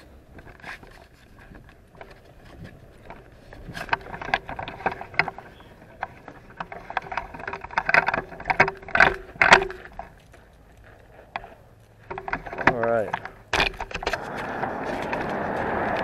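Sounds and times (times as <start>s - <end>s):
phone handling clicks and rustles: 0.2s - 10.6s, 11.3s - 16.0s.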